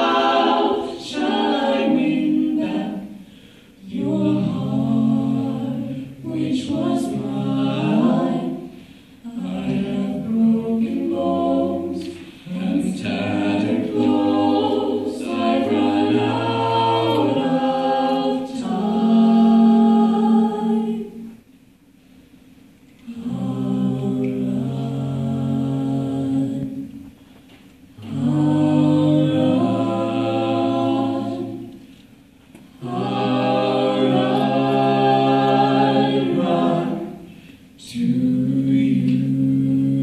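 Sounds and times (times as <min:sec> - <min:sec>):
a cappella group singing: 0:00.0 - 0:40.0.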